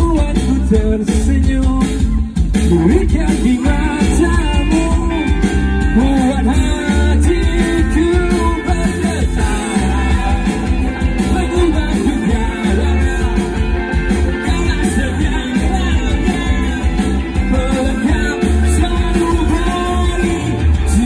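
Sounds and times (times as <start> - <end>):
bass guitar: 0.0 - 21.0
drums: 0.0 - 21.0
electric guitar: 0.0 - 21.0
person singing: 0.0 - 21.0.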